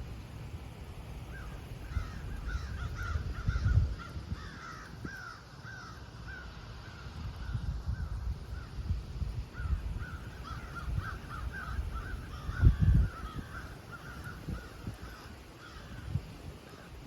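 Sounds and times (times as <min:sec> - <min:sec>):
birds calling: 0:00.0 - 0:08.8, 0:09.5 - 0:17.0.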